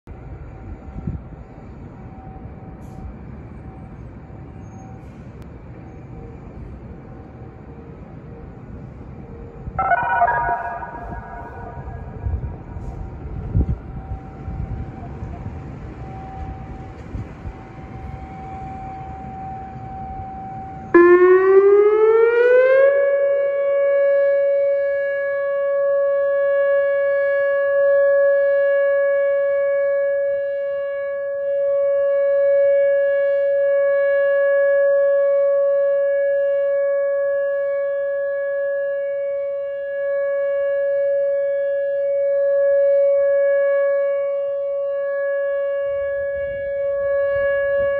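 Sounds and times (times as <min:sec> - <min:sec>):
outdoor background noise: 0:00.1 - 0:47.9
electronic warning siren: 0:06.0 - 0:47.9.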